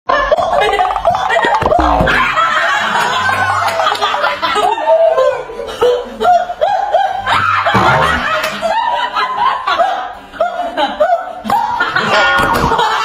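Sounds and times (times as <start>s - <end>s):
group of people laughing: 0.1s - 13.0s.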